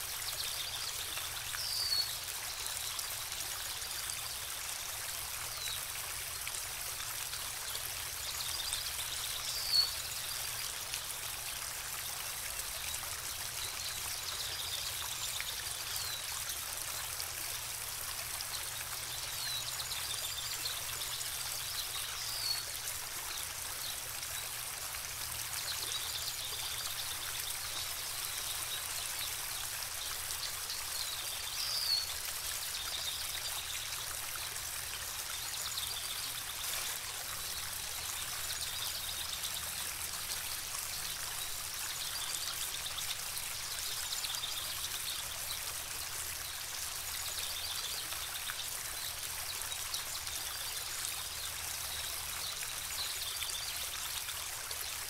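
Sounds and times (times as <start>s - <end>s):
running water hiss: 0.0s - 55.0s.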